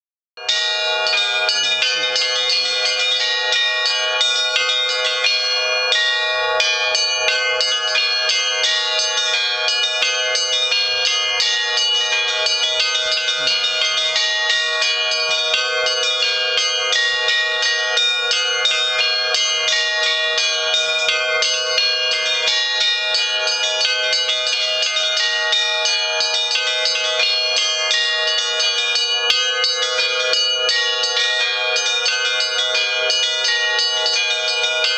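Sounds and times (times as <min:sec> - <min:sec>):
church bells pealing: 0:00.4 - 0:34.9.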